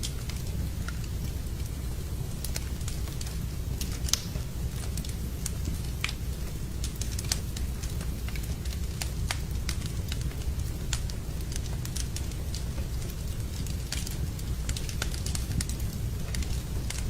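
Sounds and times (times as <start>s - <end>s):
low rumble of flames: 0.0s - 17.0s
sharp pops of fire: 0.0s - 17.0s
wood fire crackling: 0.0s - 17.0s.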